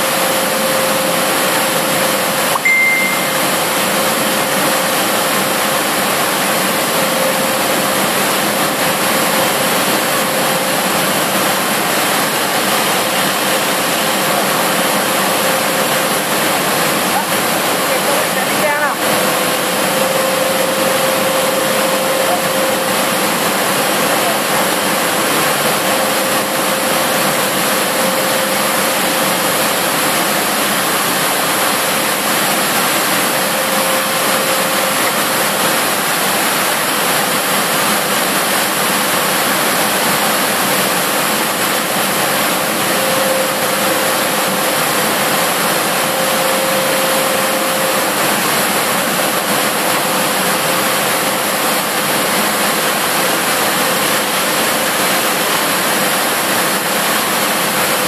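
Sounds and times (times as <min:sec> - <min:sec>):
factory machinery and fans rushing: 0:00.0 - 0:58.0.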